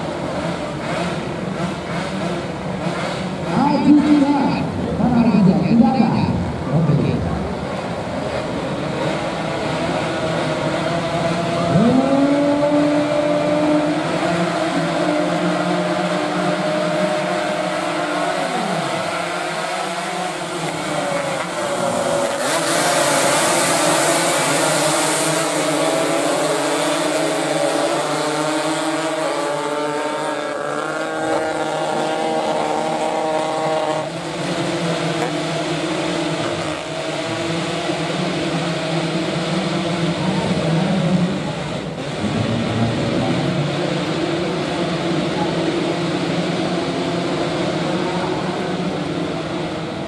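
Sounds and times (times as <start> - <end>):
racing motorcycle engines revving: 0.0 - 50.0.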